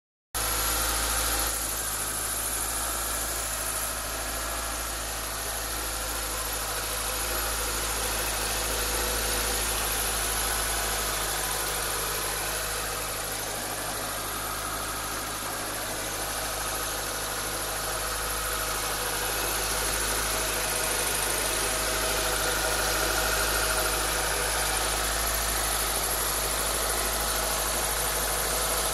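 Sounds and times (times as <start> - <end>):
car engine idling: 0.4 - 28.9.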